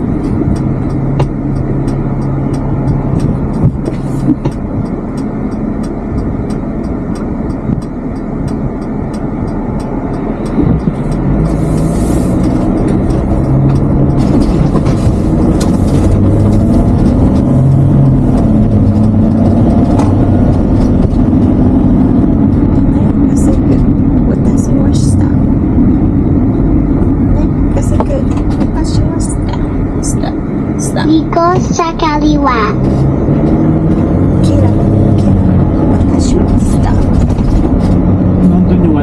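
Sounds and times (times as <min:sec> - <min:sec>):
turn signal ticking: 0:00.0 - 0:39.0
van engine and road noise: 0:00.0 - 0:39.0.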